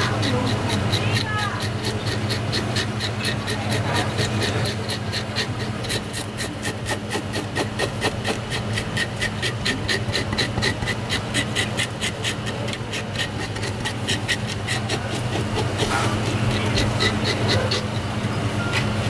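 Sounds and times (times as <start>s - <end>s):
fish scaler scraping scales: 0.0s - 19.0s
steady low hum: 0.0s - 19.0s.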